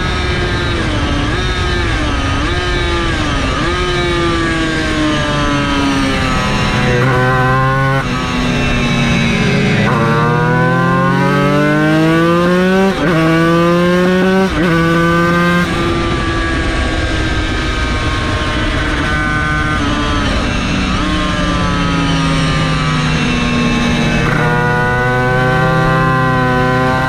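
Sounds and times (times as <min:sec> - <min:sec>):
racing engine accelerating: 0:00.0 - 0:27.0.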